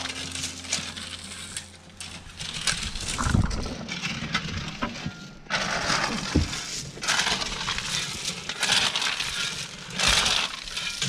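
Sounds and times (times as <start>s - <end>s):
gravel crunching and scraping: 0.0s - 11.0s
low steady hum: 0.0s - 11.0s.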